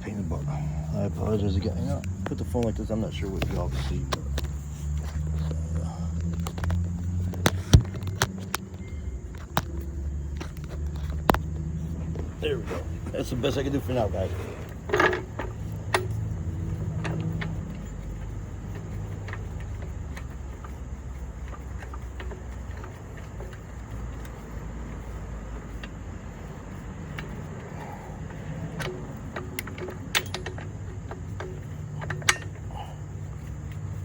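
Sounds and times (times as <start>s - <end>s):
steady low hum: 0.0s - 34.0s
sharp metallic clicks and taps: 1.1s - 34.0s.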